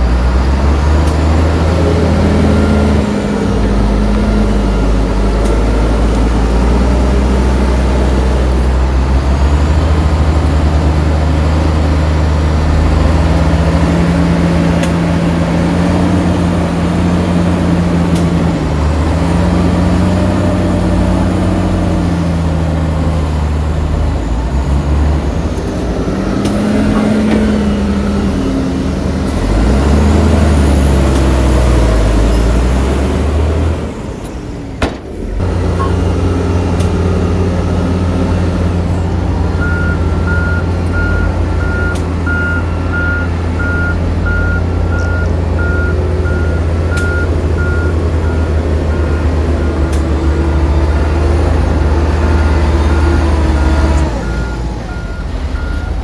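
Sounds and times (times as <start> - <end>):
heavy machinery diesel engines: 0.0 - 56.0.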